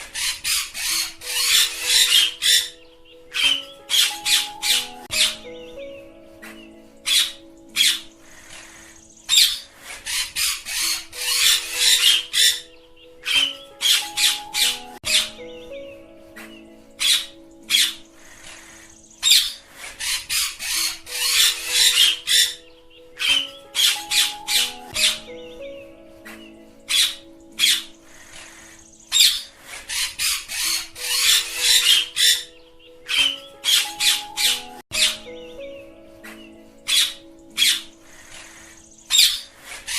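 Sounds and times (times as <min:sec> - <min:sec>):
parakeets squawking: 0:00.0 - 0:05.9, 0:06.5 - 0:25.6, 0:26.3 - 0:39.9
background music with held notes: 0:00.0 - 0:39.9.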